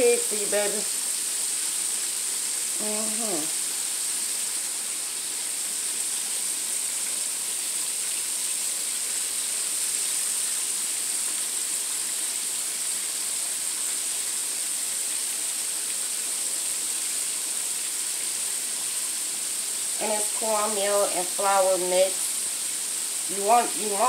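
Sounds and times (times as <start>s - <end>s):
oil sizzling in a wok: 0.0s - 24.0s.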